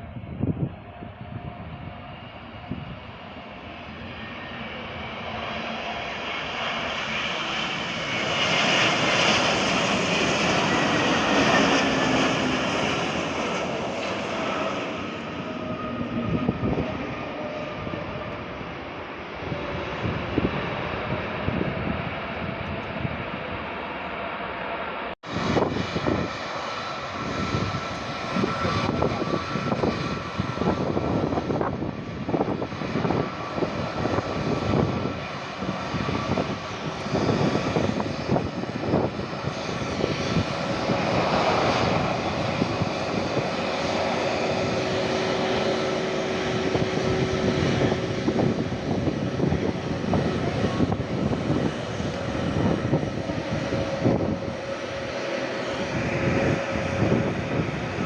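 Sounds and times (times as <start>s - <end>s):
jet engine rush: 0.0s - 58.0s.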